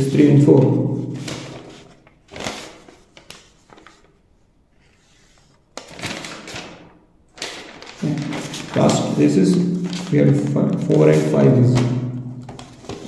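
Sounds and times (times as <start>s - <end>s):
paper sheets rustling: 0.1s - 13.0s.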